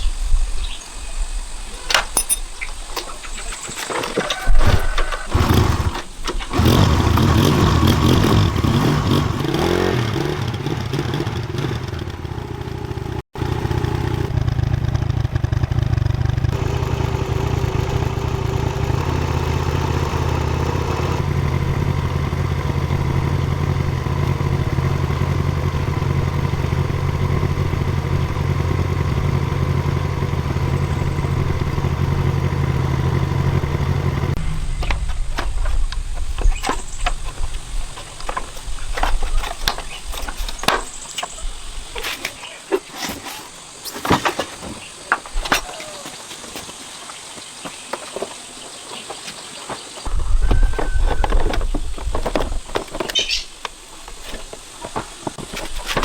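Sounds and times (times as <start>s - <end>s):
tractor engine running: 1.5s - 46.8s, 50.0s - 56.0s.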